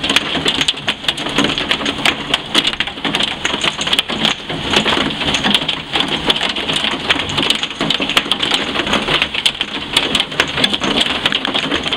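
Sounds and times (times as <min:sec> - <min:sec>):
heavy rain pouring: 0:00.0 - 0:11.9.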